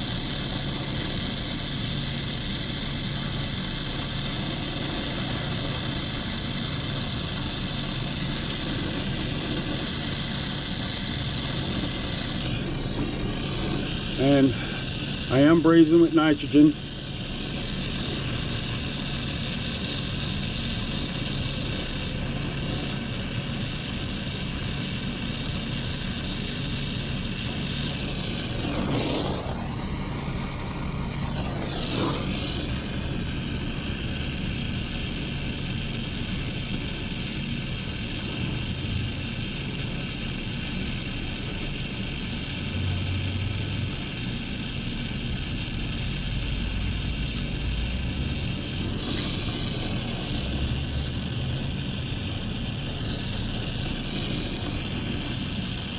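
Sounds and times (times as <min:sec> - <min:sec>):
torch flame hissing: 0:00.0 - 0:55.9.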